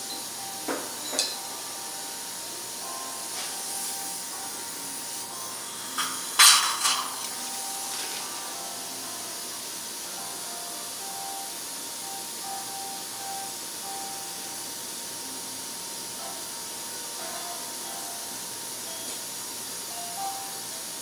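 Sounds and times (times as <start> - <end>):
faint music: 0.0 - 21.0
steady hiss: 0.0 - 21.0.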